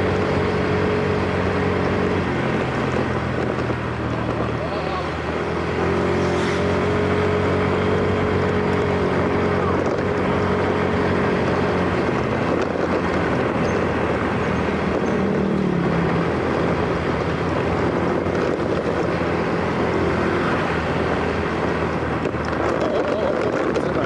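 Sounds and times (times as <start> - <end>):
motor scooter engine running: 0.0 - 24.0
wind rushing over microphone: 0.0 - 24.0.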